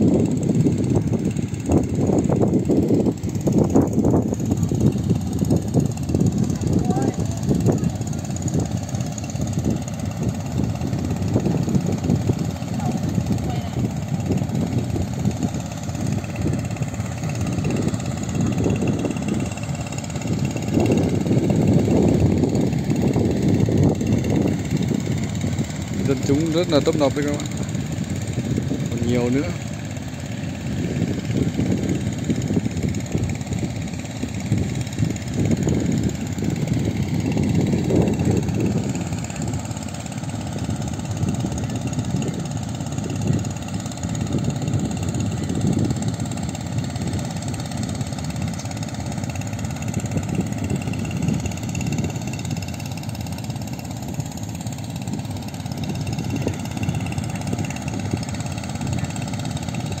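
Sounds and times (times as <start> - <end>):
small engine idling: 0.0 - 60.0.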